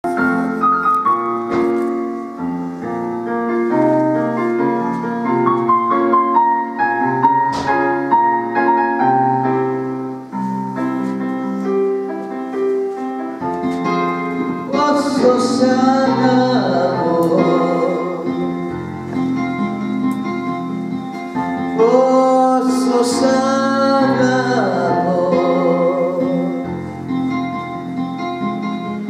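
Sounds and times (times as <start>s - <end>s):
piano keyboard instrumental: 0.0s - 29.0s.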